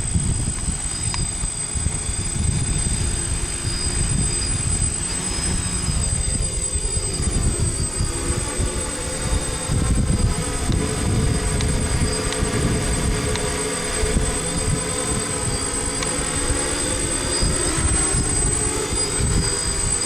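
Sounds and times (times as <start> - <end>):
drone motors and propellers whirring: 0.0 - 20.0
wind buffeting microphone: 0.0 - 20.0.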